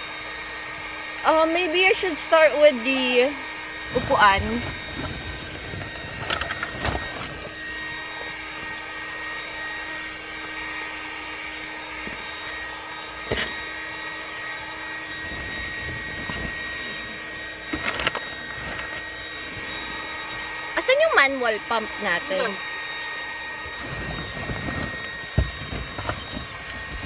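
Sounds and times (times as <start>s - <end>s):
electric air pump humming: 0.0s - 27.0s.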